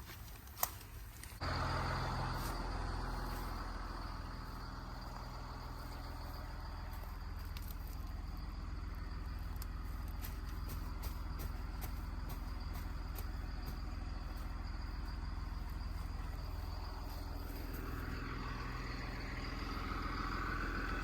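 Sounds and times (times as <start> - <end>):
vehicle engine droning: 1.0 - 21.0.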